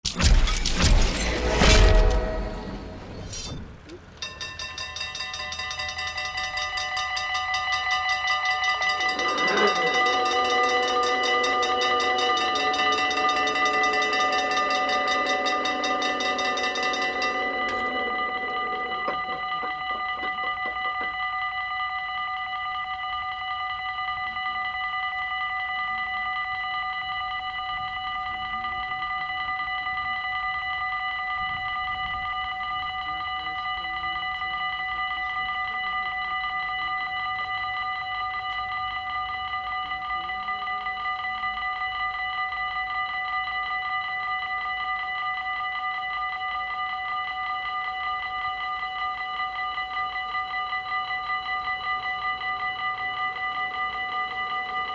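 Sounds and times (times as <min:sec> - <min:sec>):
level crossing warning bells: 0:00.1 - 0:54.9.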